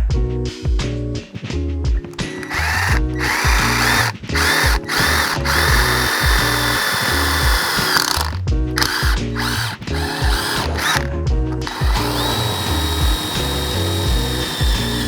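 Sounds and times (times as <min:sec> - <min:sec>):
background music with bass line: 0:00.0 - 0:15.0
power drill boring through metal: 0:02.2 - 0:15.0.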